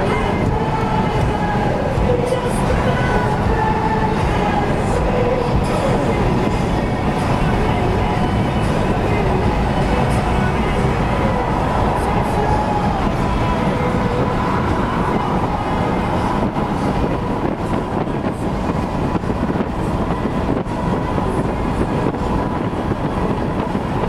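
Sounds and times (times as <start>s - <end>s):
car road noise at speed: 0.0s - 24.0s.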